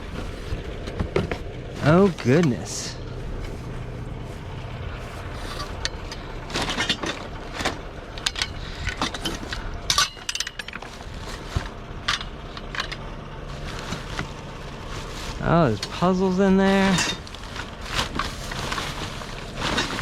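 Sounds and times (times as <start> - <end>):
hard objects clinking and rattling: 0.0 - 20.0.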